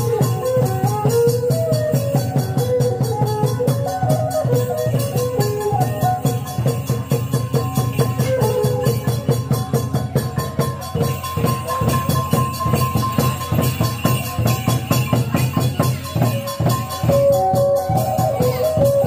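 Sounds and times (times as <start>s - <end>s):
fast driving drumbeat: 0.0s - 19.0s.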